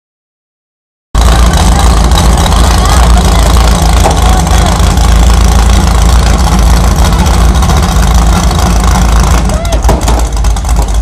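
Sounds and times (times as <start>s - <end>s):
tractor engine under heavy load: 1.2s - 11.0s.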